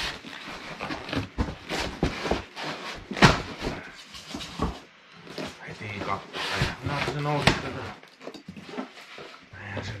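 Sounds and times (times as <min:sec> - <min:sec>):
styrofoam and cardboard rubbing: 0:00.0 - 0:08.0.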